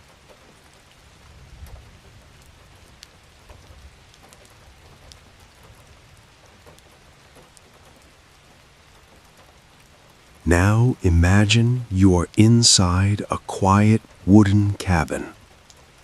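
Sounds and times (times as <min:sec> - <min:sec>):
raindrops ticking: 0:00.0 - 0:16.0
steady rain patter: 0:00.0 - 0:16.0.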